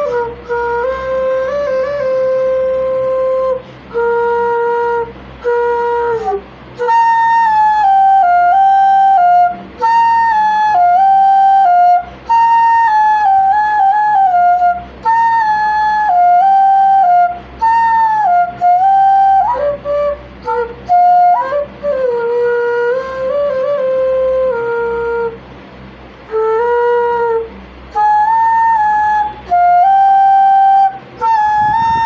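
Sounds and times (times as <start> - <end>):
solo flute melody: 0.0 - 32.0.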